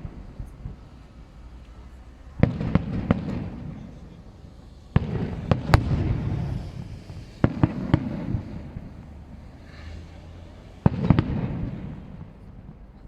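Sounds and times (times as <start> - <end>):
fireworks bursting: 0.0 - 12.9
low rumbling echo: 0.0 - 13.0.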